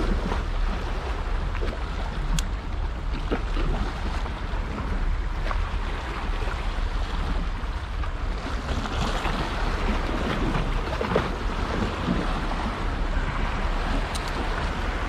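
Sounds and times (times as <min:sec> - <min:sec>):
sea waves washing against rock: 0:00.0 - 0:15.0
wind buffeting microphone: 0:00.0 - 0:15.0.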